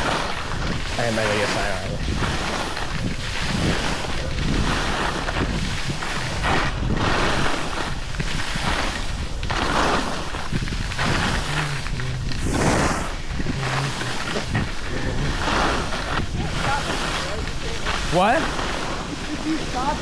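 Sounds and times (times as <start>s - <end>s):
skis carving on snow: 0.0s - 20.0s
wind rumble on microphone: 0.0s - 20.0s.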